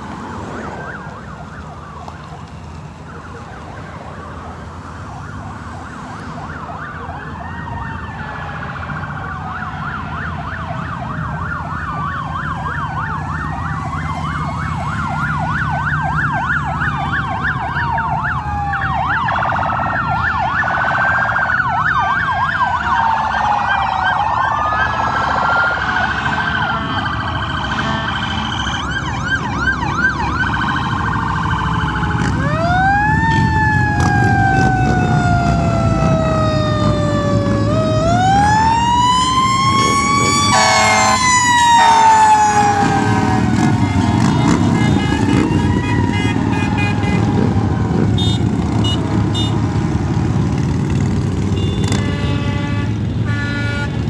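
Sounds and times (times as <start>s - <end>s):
emergency vehicle sirens: 0.0s - 54.0s
traffic rumble: 0.0s - 54.0s.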